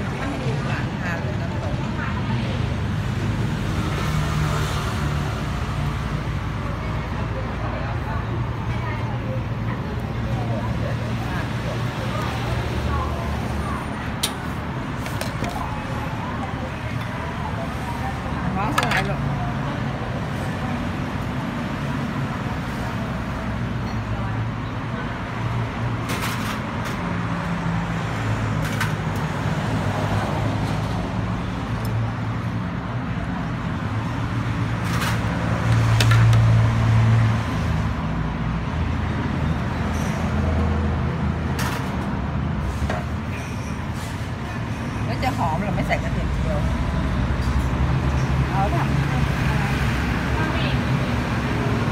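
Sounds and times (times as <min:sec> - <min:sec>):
road traffic rumble: 0:00.0 - 0:51.9.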